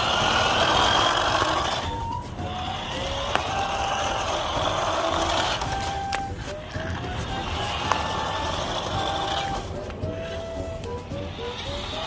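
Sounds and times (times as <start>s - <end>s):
plastic wheels rolling on concrete: 0.0s - 12.0s
toy car motor whirring: 0.0s - 12.0s.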